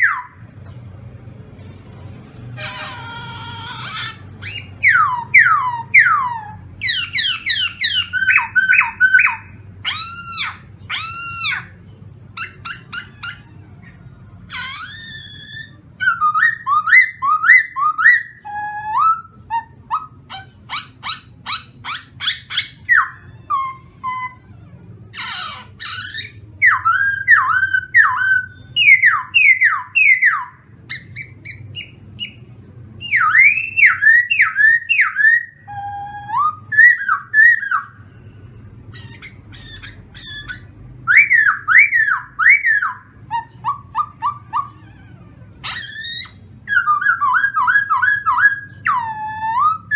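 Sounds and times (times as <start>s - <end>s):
caged bird singing whistled phrases: 0.0s - 0.4s, 2.6s - 11.8s, 12.4s - 49.9s.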